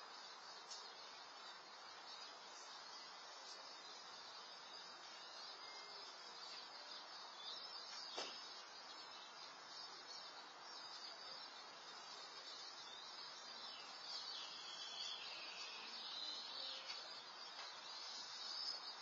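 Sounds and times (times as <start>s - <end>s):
faint high chirping: 0.0s - 19.0s
steady hiss: 0.0s - 19.0s.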